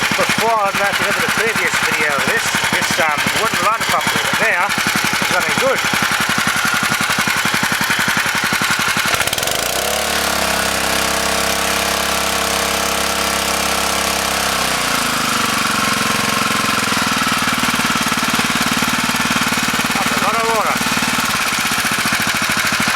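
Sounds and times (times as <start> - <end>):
small petrol engine running: 0.0 - 22.9.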